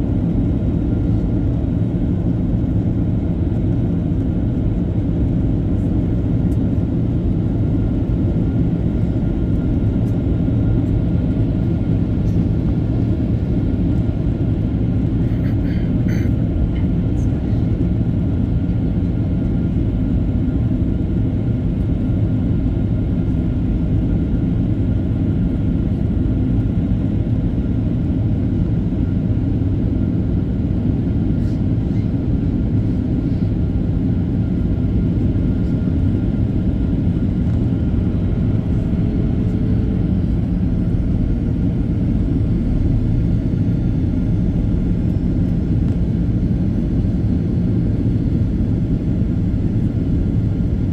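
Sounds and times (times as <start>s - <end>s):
airplane cabin rumble: 0.0s - 50.9s
jet engines: 0.0s - 50.9s.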